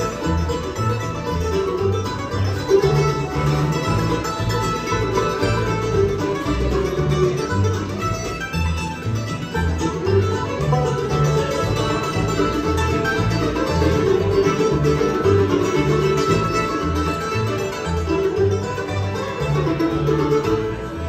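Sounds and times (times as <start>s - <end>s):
banjo picking: 0.0s - 21.0s
bass line: 0.0s - 21.0s
guitar picking: 0.0s - 21.0s
mandolin: 0.0s - 21.0s.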